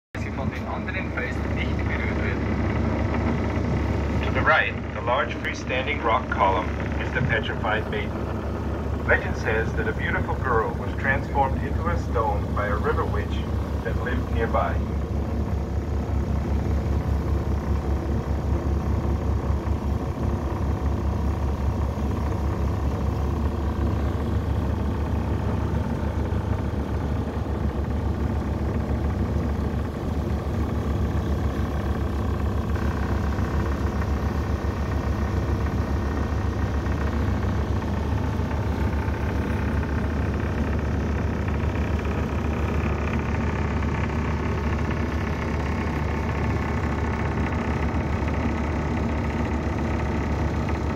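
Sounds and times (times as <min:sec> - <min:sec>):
boat engine droning: 0:00.2 - 0:50.9.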